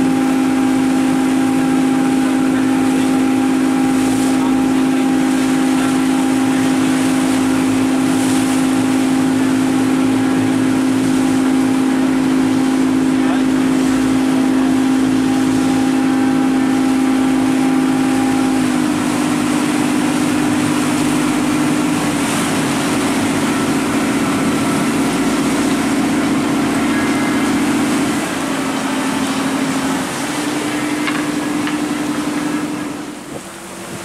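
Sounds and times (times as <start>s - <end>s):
boat engine running: 0.0s - 34.0s
water rushing past: 0.0s - 34.0s.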